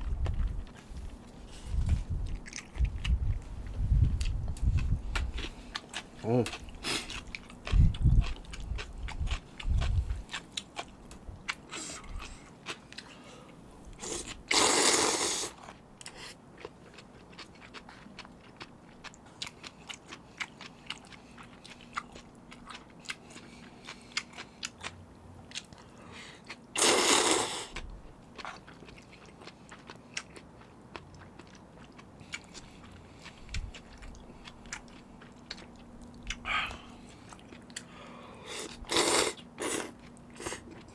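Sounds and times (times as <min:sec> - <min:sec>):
chewing and mouth sounds: 0:00.0 - 0:40.9.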